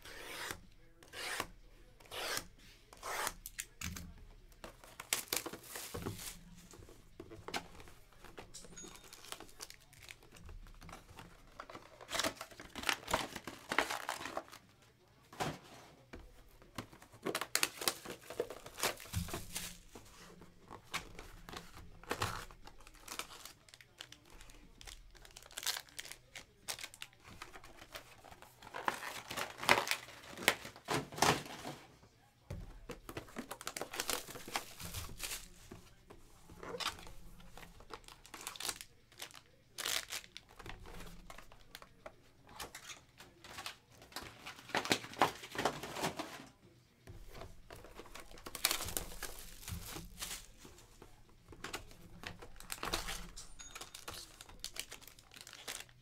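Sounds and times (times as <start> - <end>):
shrink wrap crinkling and tearing: 3.1 - 6.7, 9.0 - 14.8, 16.8 - 31.4, 33.0 - 35.8, 36.6 - 46.3, 47.3 - 56.0.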